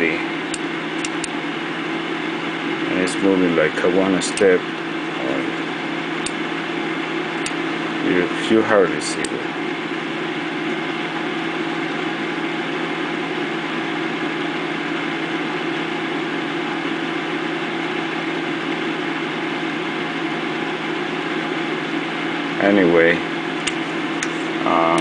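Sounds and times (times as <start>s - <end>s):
cooling fan whirring: 0.0s - 25.0s.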